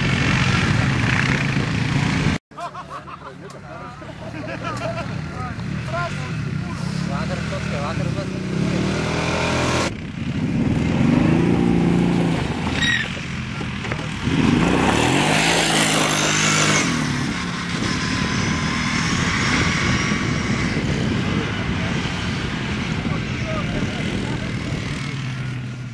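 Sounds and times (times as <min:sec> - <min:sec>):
quad bike engines revving: 0:00.0 - 0:25.9.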